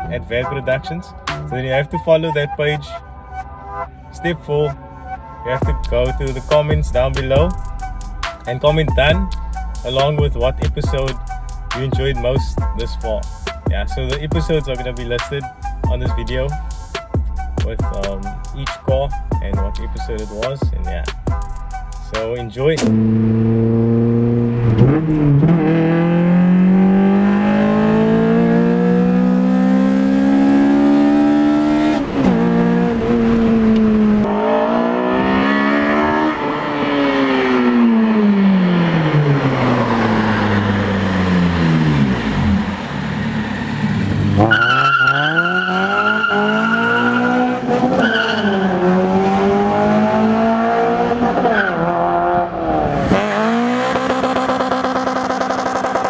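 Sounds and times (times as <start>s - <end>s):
car engine revving: 5.6s - 18.6s, 19.9s - 56.0s.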